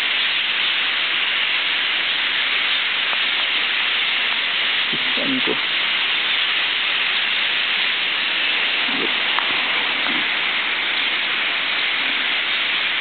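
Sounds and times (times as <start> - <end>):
flock of starlings calling: 0.0 - 13.0.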